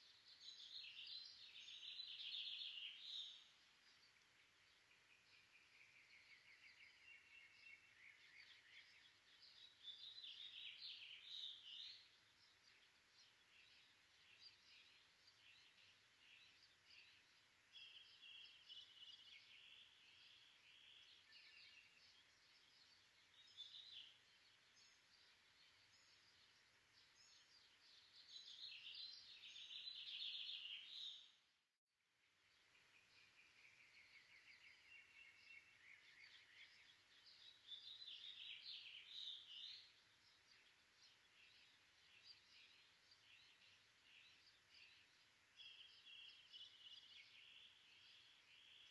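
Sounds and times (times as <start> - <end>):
small birds chirping and trilling: 0.0 - 48.9.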